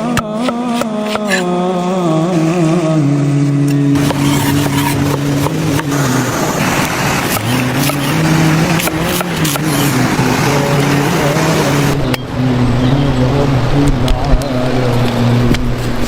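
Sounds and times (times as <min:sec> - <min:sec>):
man chanting in held notes: 0:00.0 - 0:15.5.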